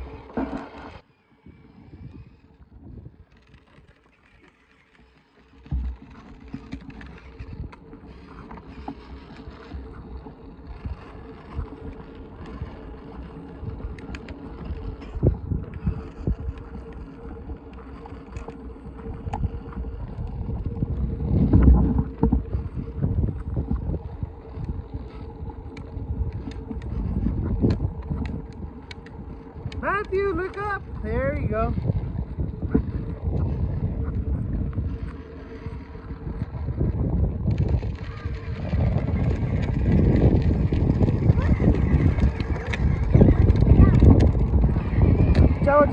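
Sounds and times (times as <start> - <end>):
electric motor hum: 0.0 - 45.9
plastic wheels rumbling on pavement: 0.0 - 45.9.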